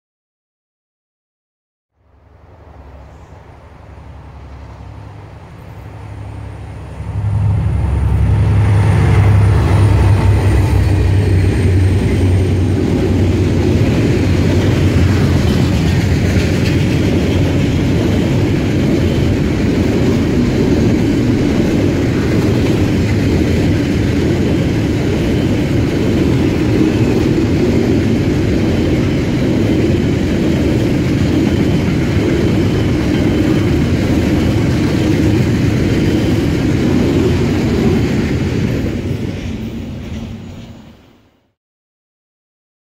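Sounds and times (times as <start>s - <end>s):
locomotive engines droning: 2.0s - 41.0s
wagons rumbling on rails: 2.2s - 41.1s.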